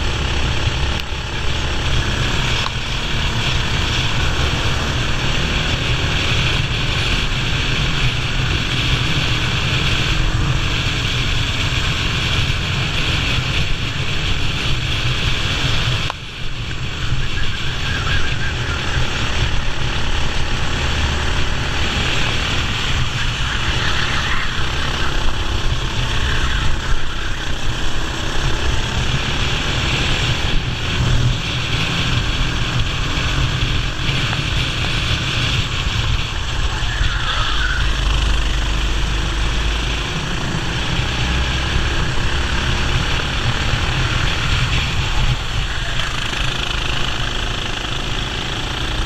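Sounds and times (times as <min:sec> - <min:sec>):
kart engine running hard: 0:00.0 - 0:49.0
wind rush on microphone: 0:00.0 - 0:49.0.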